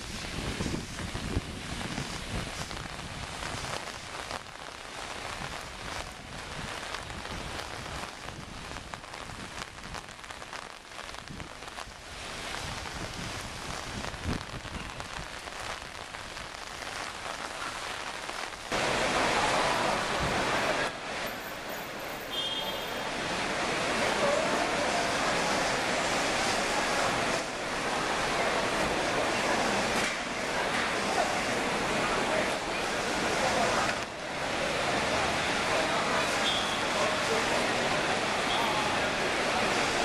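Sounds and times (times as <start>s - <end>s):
rain on wet pavement: 0.0s - 40.0s.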